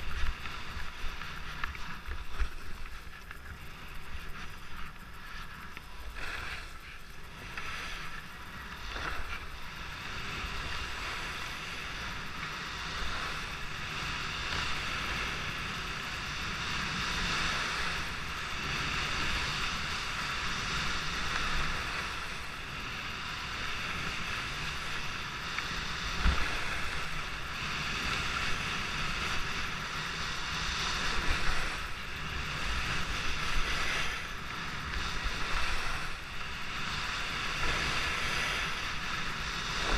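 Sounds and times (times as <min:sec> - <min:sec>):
skis hissing on snow: 0:00.0 - 0:39.9.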